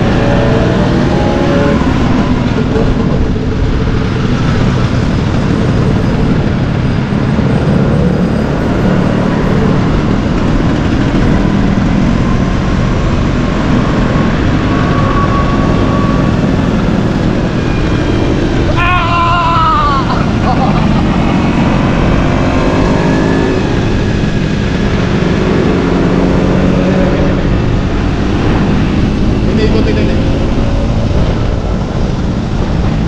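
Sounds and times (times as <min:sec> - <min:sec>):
high tone bending downward: 0:00.0 - 0:32.9.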